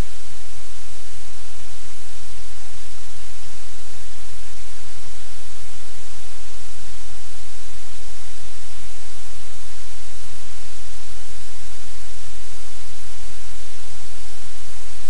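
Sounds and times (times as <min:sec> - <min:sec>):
static-like hiss: 0:00.0 - 0:15.0.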